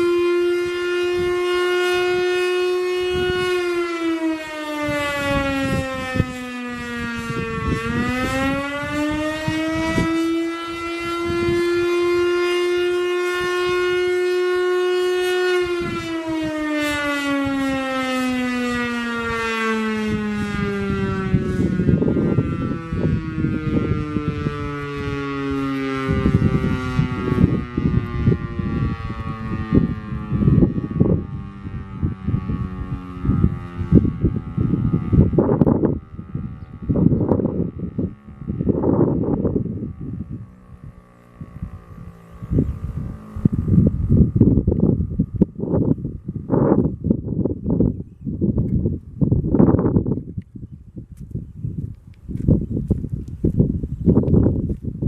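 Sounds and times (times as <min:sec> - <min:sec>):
siren wailing: 0:00.0 - 0:48.6
wind buffeting microphone: 0:00.0 - 0:55.0.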